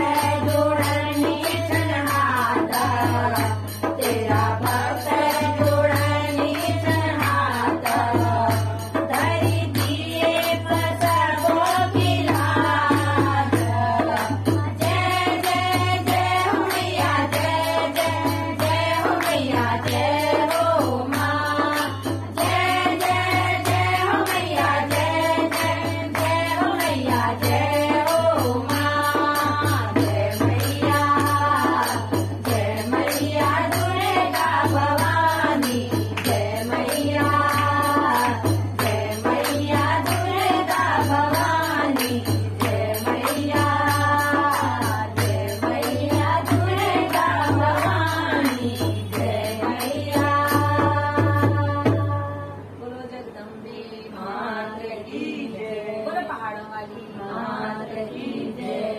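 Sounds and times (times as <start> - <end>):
hand drum rhythm: 0.0 - 52.4
women singing in chorus: 0.0 - 58.9.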